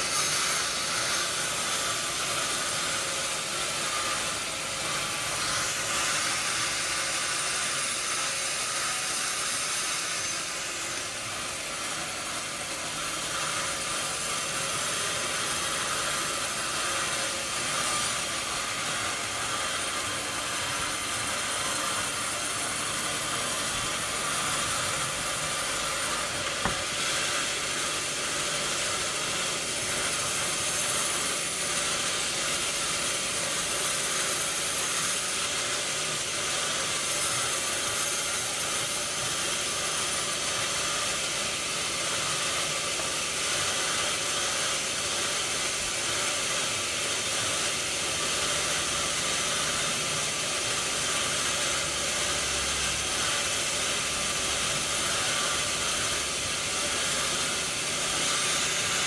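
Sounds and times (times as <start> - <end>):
saw cutting through log: 0.0 - 59.0.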